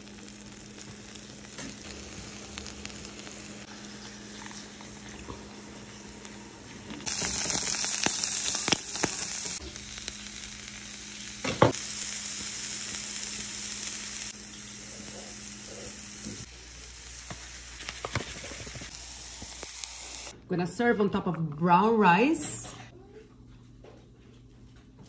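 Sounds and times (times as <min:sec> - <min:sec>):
vegetables sizzling in oil: 0:00.0 - 0:20.4.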